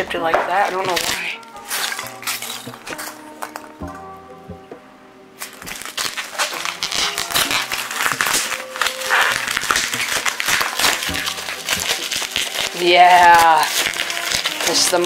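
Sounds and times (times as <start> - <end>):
bubble wrap crinkling: 0.0 - 3.7, 5.4 - 15.0.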